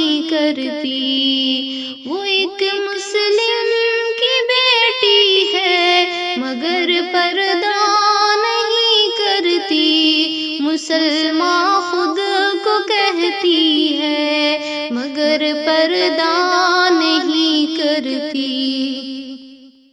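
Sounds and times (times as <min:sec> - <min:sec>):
woman singing devotional song: 0:00.0 - 0:19.8.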